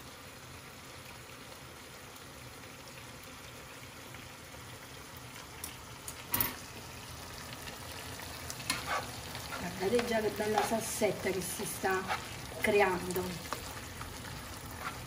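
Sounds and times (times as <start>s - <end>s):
tomatoes sizzling in oil: 0.0s - 15.0s.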